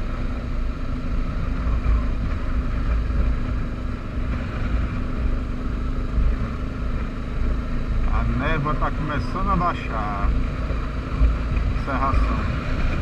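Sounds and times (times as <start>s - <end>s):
wind rumbling on microphone: 0.0s - 8.2s, 9.3s - 13.0s
motorcycle engine cruising: 0.0s - 13.0s.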